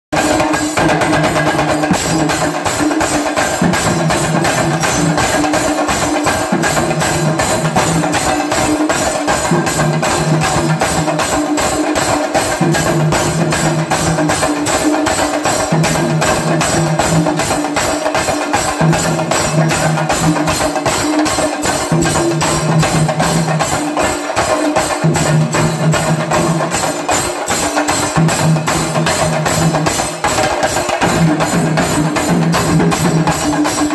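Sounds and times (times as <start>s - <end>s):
drum ensemble playing fast rhythm: 0.1s - 33.9s.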